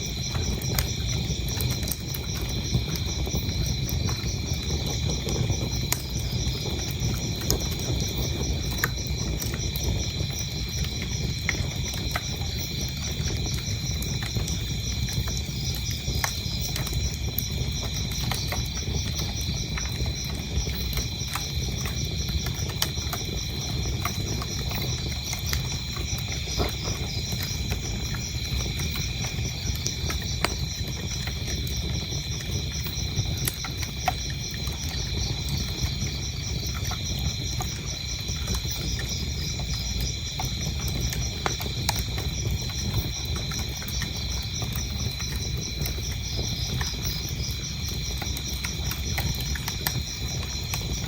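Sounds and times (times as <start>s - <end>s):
crickets chirping: 0.0s - 51.0s
fire popping: 0.0s - 51.0s
wood fire crackling: 0.0s - 51.0s.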